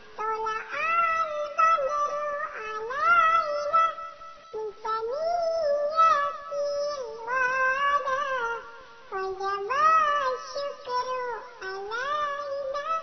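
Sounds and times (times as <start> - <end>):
electronically altered singing voice: 0.0 - 13.0.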